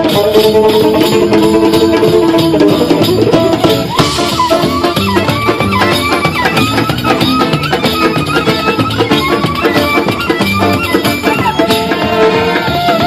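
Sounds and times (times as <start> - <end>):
high melody with bending notes: 0.0 - 13.0
percussion: 0.0 - 13.0
plucked strings: 0.0 - 13.0.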